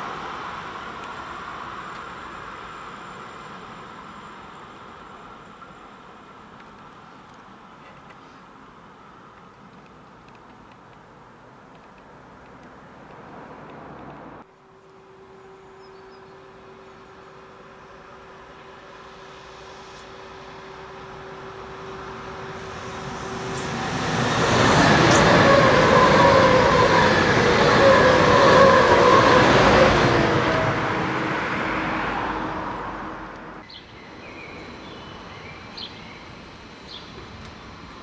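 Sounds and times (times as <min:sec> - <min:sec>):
high-speed train passing: 0:00.0 - 0:07.8, 0:13.0 - 0:38.0.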